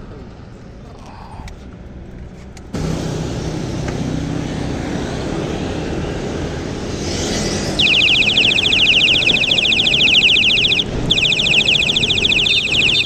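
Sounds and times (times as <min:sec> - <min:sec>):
traffic and road noise: 0:00.0 - 0:13.0.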